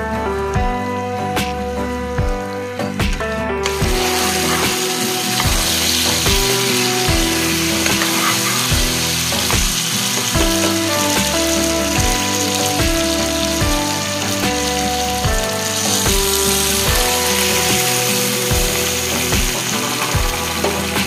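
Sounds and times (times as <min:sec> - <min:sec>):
instrumental background music: 0:00.0 - 0:21.0
meat sizzling in a wok: 0:03.6 - 0:21.0.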